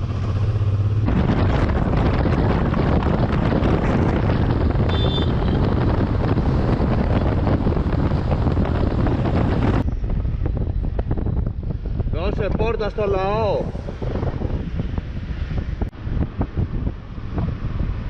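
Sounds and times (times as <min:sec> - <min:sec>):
heavy wind noise on microphone: 0:00.0 - 0:18.0.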